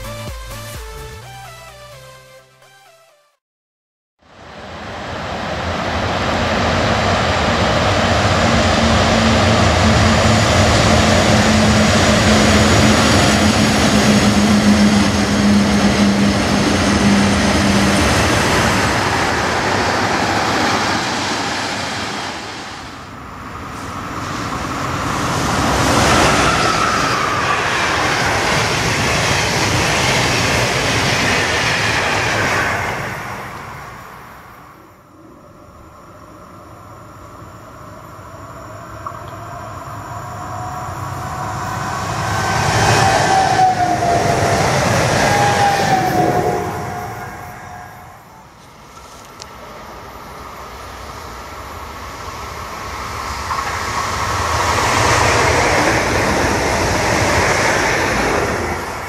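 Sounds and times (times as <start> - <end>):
train wheels rumbling on rail: 4.5 - 34.6, 37.8 - 59.0.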